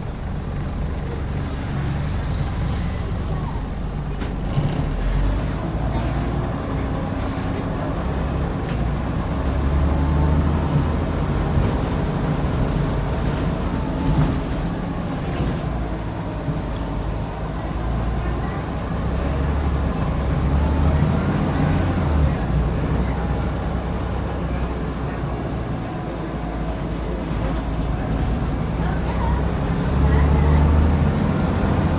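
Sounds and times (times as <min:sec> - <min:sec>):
bus diesel engine running: 0:00.0 - 0:31.9.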